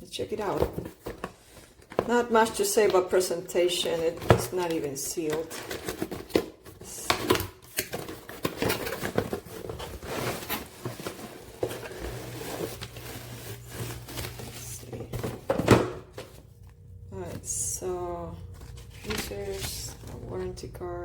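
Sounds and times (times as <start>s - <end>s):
paper and packaging rustling: 0.1s - 20.8s.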